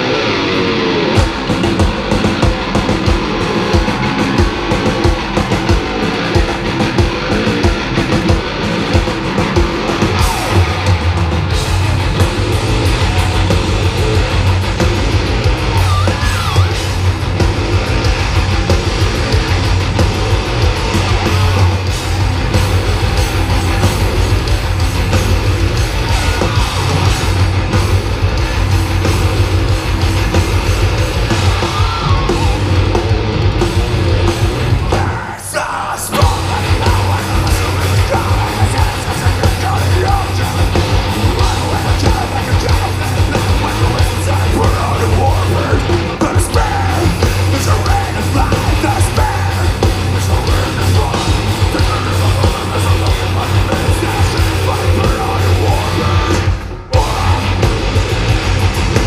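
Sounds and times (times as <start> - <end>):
distorted electric guitars: 0.0 - 59.0
fast drumming: 0.0 - 59.0.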